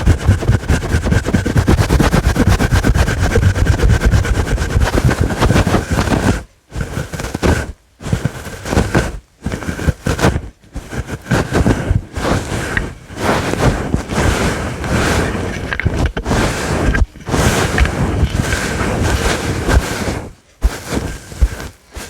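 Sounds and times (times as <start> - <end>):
fingers scratching furry mic cover: 0.0 - 22.0.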